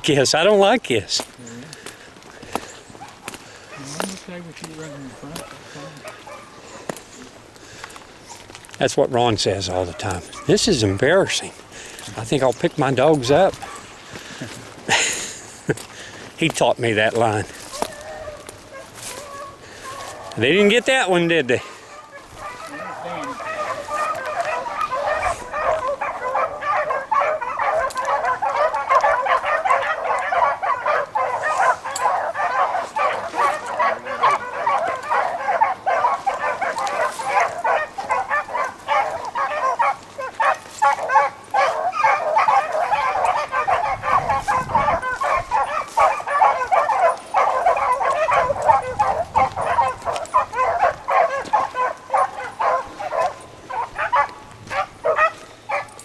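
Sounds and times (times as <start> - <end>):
hounds baying: 0.0 - 56.0.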